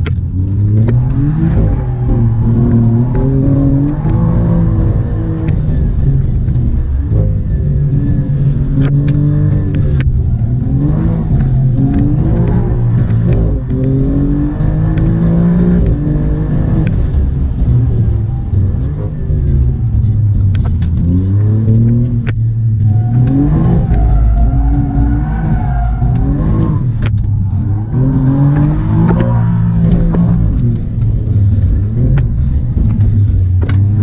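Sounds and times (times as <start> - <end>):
car engine under hard driving: 0.0 - 34.0.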